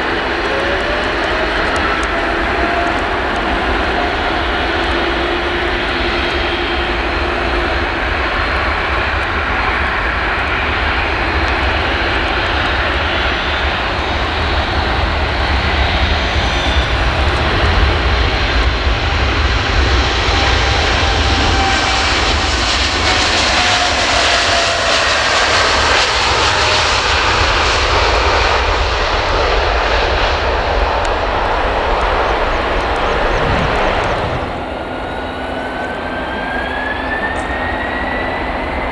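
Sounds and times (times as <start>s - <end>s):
faint falling whining tones: 0.0s - 22.5s, 30.2s - 38.9s
jet engines roaring at takeoff: 0.0s - 38.9s.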